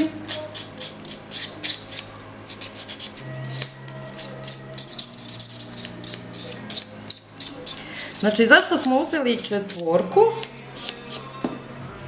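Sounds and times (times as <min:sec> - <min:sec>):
nail buffer rubbing: 0:00.3 - 0:11.3.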